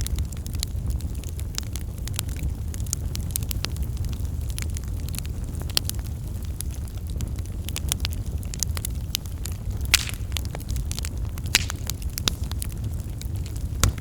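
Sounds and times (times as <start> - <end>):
fire crackles and pops: 0.0 - 14.0
wood fire rumbling: 0.0 - 14.0.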